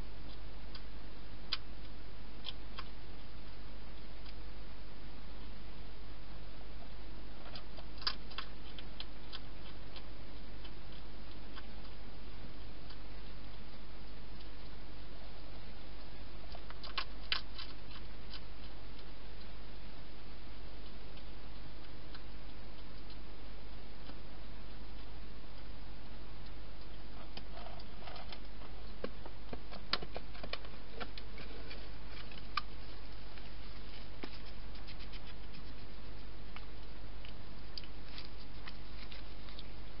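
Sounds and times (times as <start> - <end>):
hedgehog eating ticks: 0.0 - 4.6, 6.5 - 40.0
steady hiss and hum: 0.0 - 40.0.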